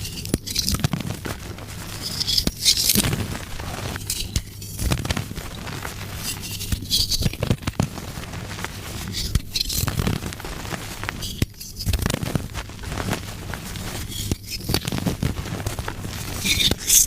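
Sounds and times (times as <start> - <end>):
chalk being crushed and crumbled: 0.0 - 17.0.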